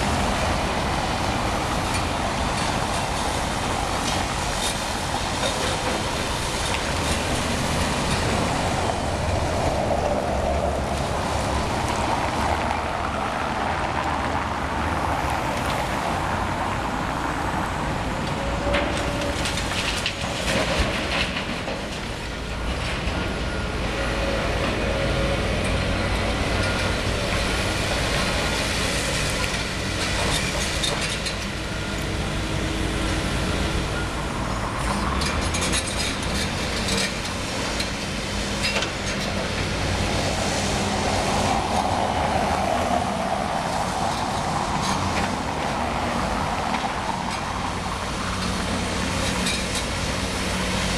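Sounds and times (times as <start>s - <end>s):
excavator diesel engine: 0.0s - 50.9s.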